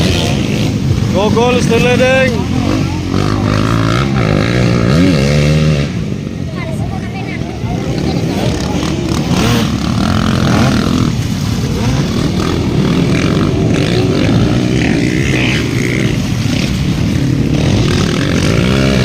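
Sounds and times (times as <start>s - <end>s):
motocross bike engines: 0.0s - 19.0s.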